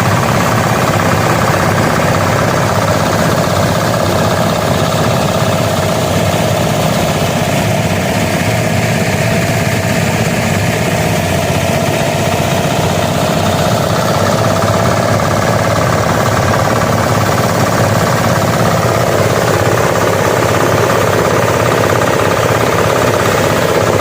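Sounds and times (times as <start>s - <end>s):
harvester engine running: 0.0s - 24.0s.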